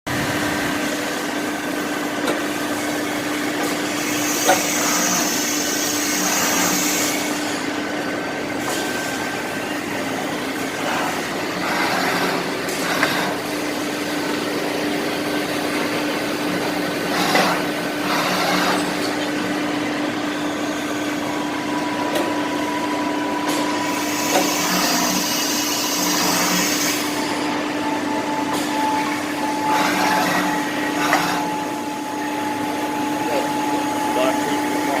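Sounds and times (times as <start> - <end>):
machining center humming: 0.1 - 35.0.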